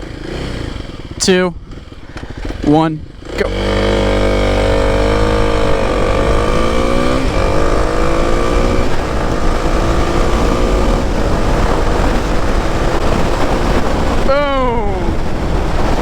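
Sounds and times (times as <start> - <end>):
motorcycle engine accelerating: 0.0 - 16.0
wind rush over helmet: 0.0 - 16.0.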